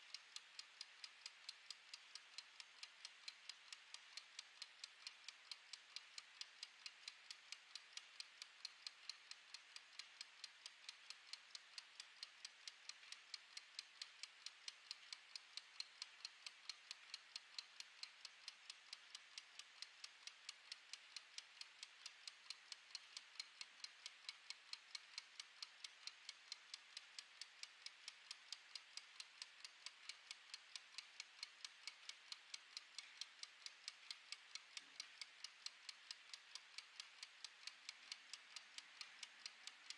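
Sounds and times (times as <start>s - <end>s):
kitchen timer ticking: 0.0s - 39.9s.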